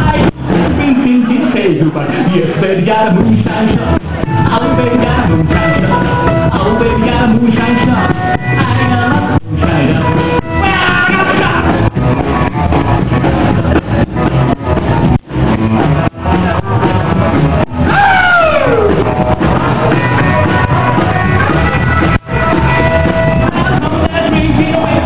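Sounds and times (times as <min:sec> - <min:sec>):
electric guitar: 0:00.0 - 0:25.0
rock and roll band playing: 0:00.0 - 0:25.0.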